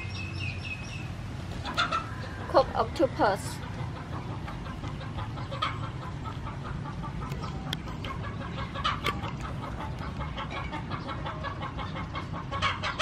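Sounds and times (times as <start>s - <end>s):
chickens clucking: 1.5s - 13.0s.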